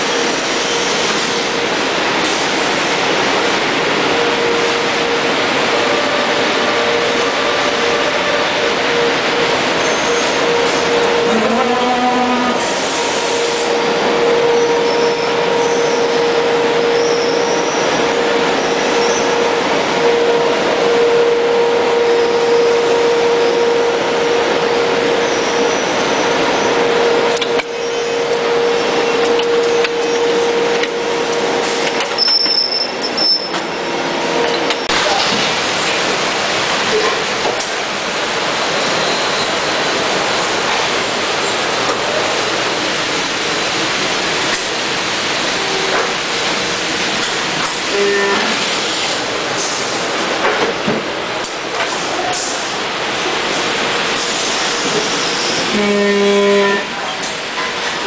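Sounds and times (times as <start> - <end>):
loud steady machinery noise: 0.0 - 58.0.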